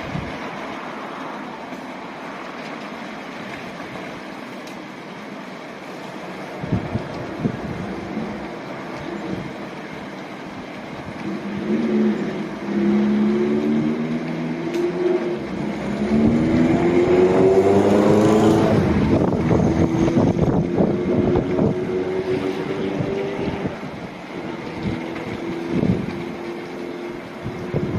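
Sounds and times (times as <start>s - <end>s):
car wash motors whining: 0.0s - 27.9s
water spraying and brushes: 0.0s - 27.9s.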